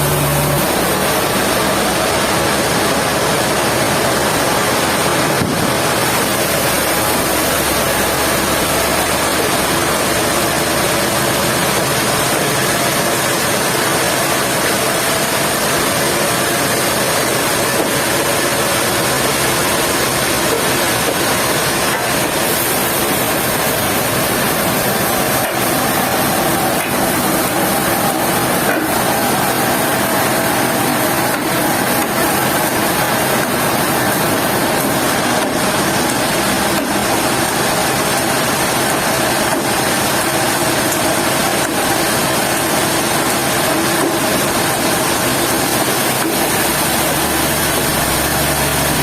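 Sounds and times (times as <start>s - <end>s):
sawmill machinery running: 0.0s - 49.0s.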